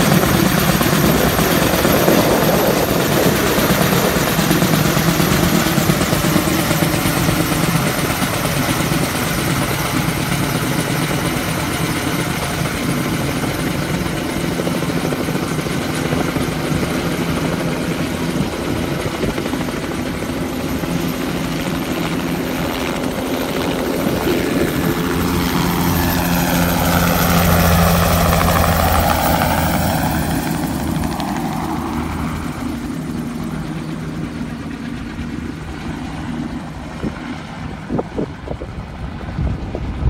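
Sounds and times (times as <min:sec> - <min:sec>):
helicopter passing: 0:00.0 - 0:40.0.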